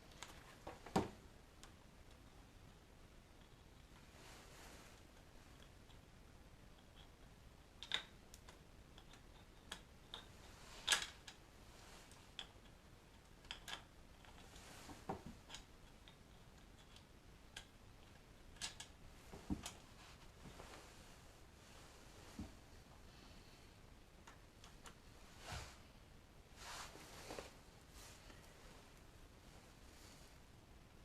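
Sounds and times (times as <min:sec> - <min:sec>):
faint hiss: 0:00.0 - 0:31.0.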